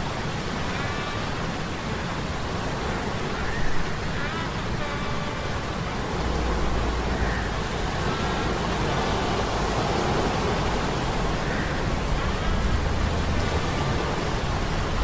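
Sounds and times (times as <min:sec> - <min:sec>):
rush of sea storm: 0:00.0 - 0:15.0.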